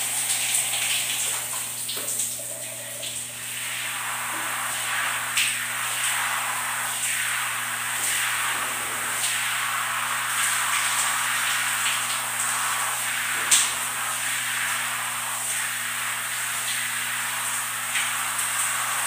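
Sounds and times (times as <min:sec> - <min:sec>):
faint steady hum: 0:00.0 - 0:19.0
shower water splashing on person: 0:00.0 - 0:19.0.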